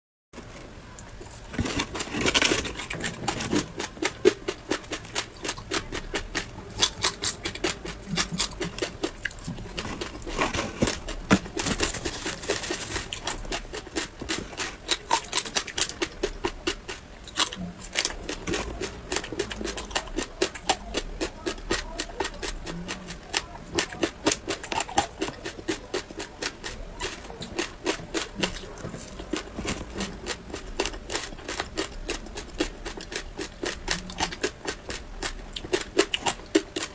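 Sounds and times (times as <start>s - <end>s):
crunching of crisp food being chewed: 0.9s - 36.9s.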